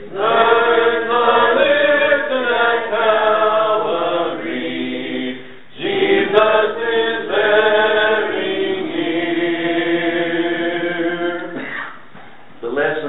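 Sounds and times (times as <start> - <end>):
congregation singing a hymn: 0.0 - 11.7.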